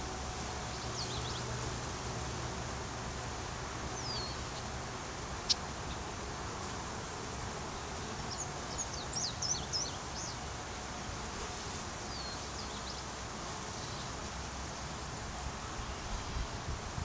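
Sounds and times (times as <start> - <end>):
bee swarm humming: 0.0 - 16.8.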